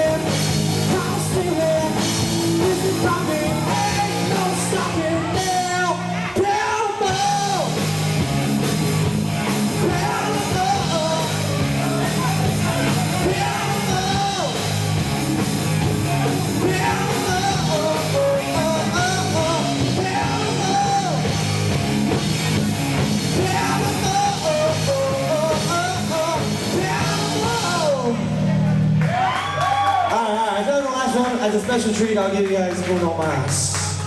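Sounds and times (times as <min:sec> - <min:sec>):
melodic lead line: 0:00.0 - 0:29.0
live rock band playing: 0:00.0 - 0:29.4.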